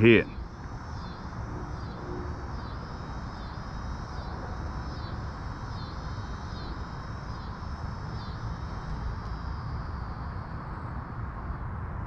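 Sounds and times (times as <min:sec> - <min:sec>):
faint pulsing high buzz: 0:00.0 - 0:12.0.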